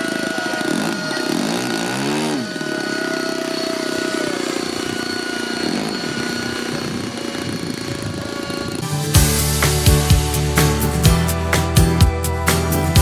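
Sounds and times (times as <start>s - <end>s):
helicopter swishing past: 0.0s - 10.7s
model helicopter motor whine: 0.0s - 10.8s.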